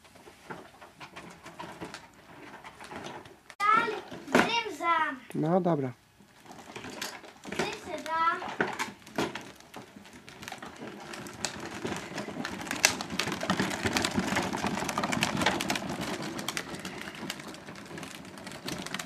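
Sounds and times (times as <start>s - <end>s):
plastic wheels rattling on paving: 0.0s - 5.0s, 6.2s - 19.0s.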